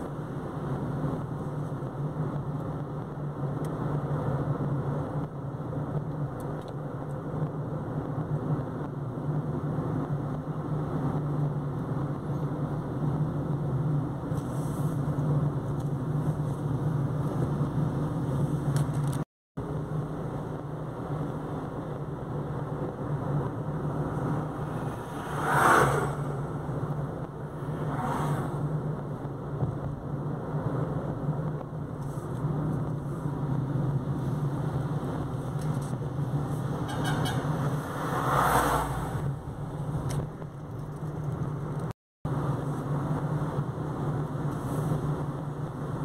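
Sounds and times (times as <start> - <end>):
car engine and tyres drone: 0.0 - 46.0.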